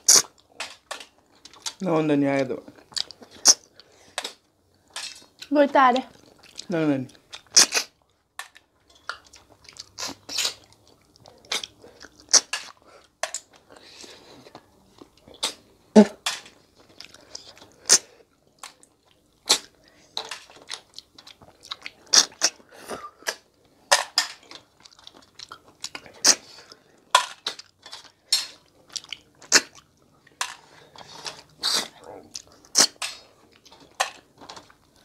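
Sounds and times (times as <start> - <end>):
chewing: 0.0 - 1.8, 2.6 - 15.6, 16.5 - 23.8, 24.4 - 35.0
slurping snails: 2.8 - 5.4, 6.1 - 8.1, 8.9 - 15.7, 16.8 - 23.5, 24.4 - 35.0.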